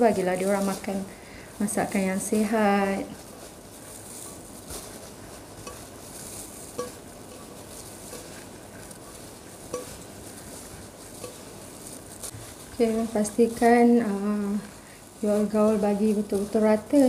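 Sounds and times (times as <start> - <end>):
gloved hand squishing filling: 0.0 - 17.0.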